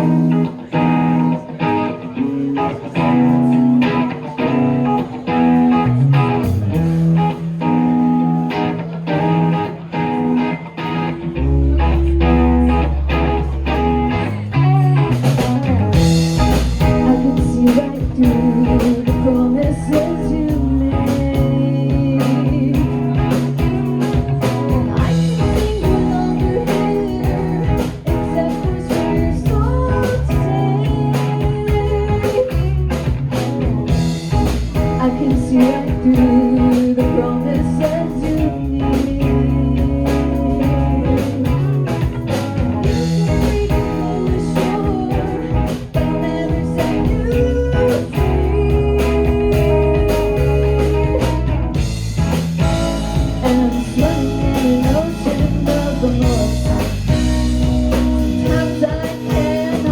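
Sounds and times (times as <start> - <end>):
person singing: 0.0 - 51.8, 52.6 - 59.9
rock band playing live: 0.0 - 59.9.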